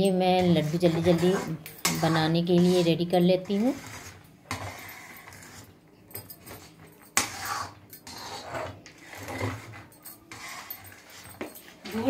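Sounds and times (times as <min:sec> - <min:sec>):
ladle scraping pot: 0:00.3 - 0:05.8, 0:06.4 - 0:11.4.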